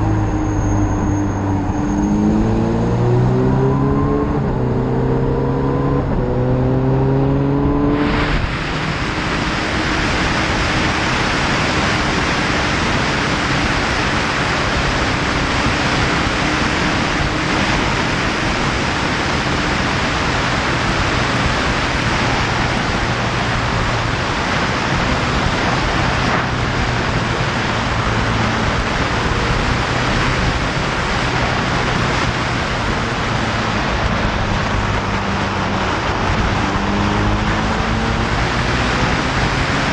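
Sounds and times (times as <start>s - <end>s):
motorcycle engine accelerating: 0.0s - 39.9s
wind rushing over microphone: 0.0s - 39.9s.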